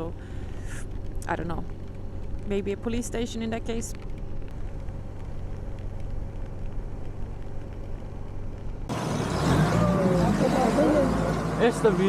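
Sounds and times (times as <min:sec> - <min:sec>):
road noise hum: 0:00.0 - 0:12.0.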